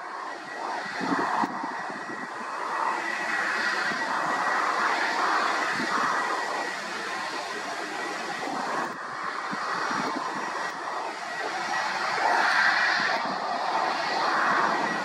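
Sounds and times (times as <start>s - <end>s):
jet engine roar: 0.0s - 15.0s
wind buffeting microphone: 0.4s - 15.0s.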